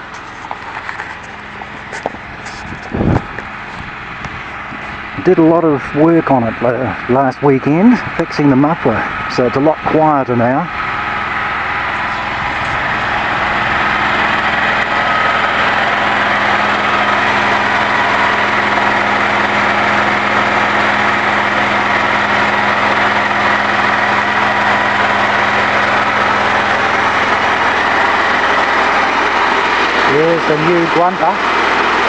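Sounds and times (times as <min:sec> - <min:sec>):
small engine generator running: 0:00.0 - 0:32.0.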